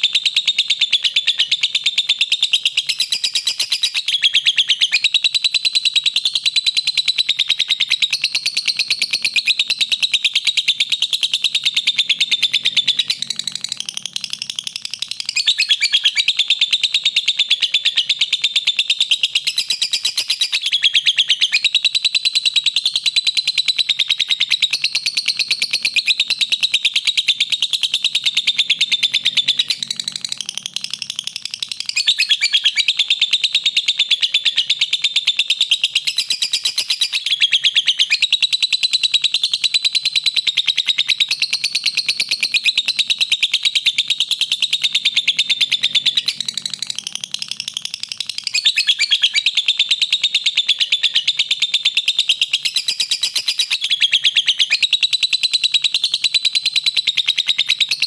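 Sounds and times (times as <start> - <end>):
bird chattering trill: 0.0 - 58.0.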